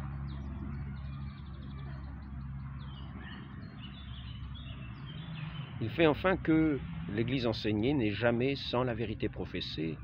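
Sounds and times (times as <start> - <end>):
small birds chirping: 0.0 - 10.0
steady low hum: 0.0 - 10.0.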